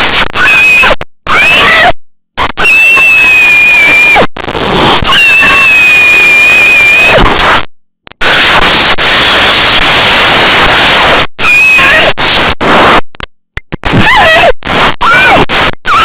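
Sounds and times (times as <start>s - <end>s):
harsh static noise: 0.0s - 16.0s.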